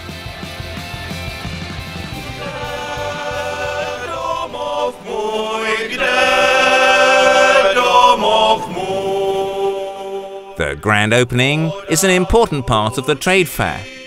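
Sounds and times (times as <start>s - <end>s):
male voice choir singing: 2.1s - 14.0s.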